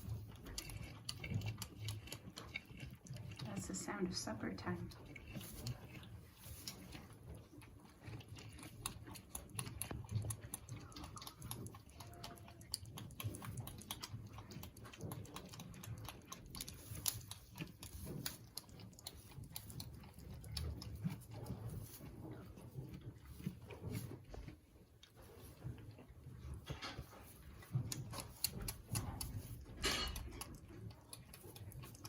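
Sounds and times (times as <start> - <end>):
goat kid suckling: 0.0 - 32.0.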